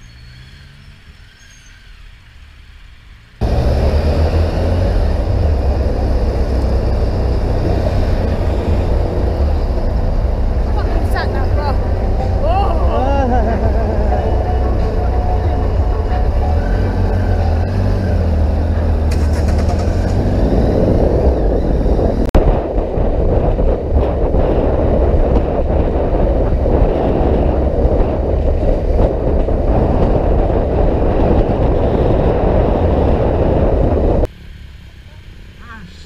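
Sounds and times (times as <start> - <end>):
motorcycle engine: 0.0 - 36.0
wind rushing: 3.4 - 34.3.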